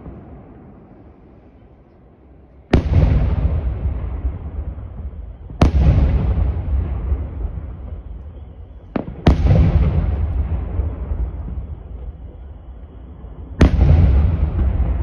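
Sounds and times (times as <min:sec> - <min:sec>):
fireworks booming: 0:00.0 - 0:01.6, 0:02.7 - 0:15.0.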